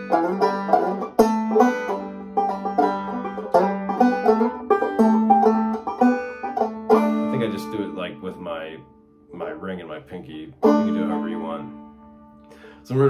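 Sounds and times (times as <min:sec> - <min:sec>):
banjo picking and strumming: 0:00.0 - 0:13.0.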